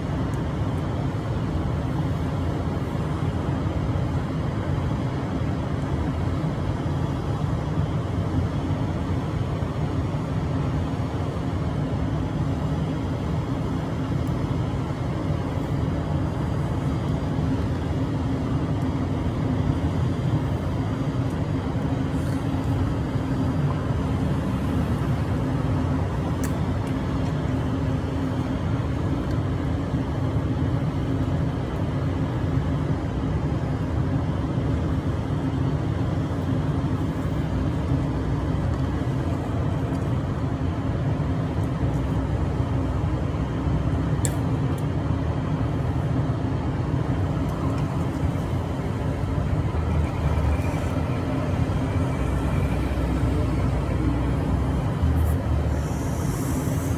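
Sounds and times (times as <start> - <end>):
low traffic rumble: 0.0 - 56.9
steady hum: 0.0 - 56.9.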